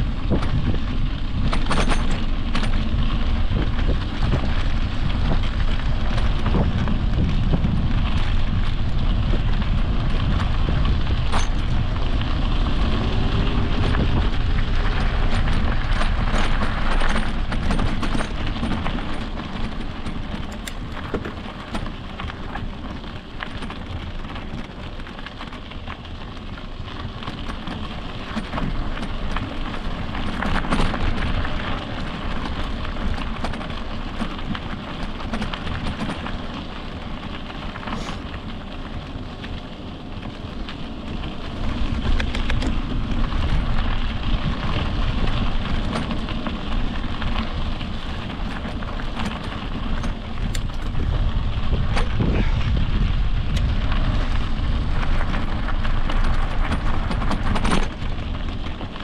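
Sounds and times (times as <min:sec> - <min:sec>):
bike knocking over bumps: 0:00.0 - 0:59.0
tyres crunching on gravel: 0:00.0 - 0:59.0
wind rumbling on microphone: 0:00.0 - 0:59.0.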